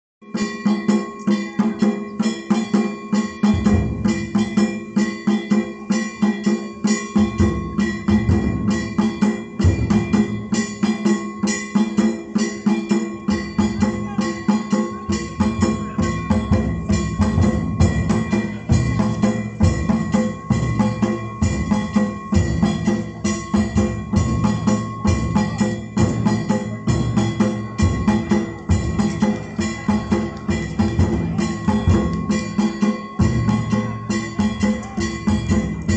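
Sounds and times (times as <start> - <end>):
hand gongs ringing: 0.2 - 35.9
deep drum beats: 0.6 - 35.9.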